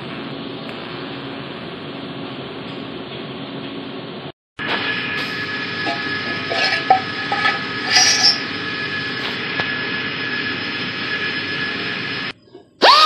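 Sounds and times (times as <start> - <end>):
workshop machinery hum: 0.0 - 13.0.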